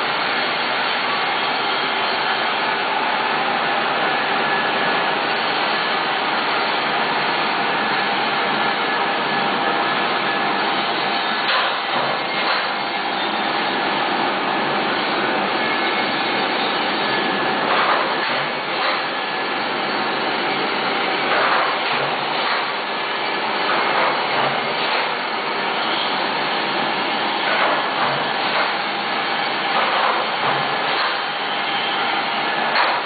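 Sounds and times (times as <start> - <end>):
machine whirring: 0.0 - 33.0.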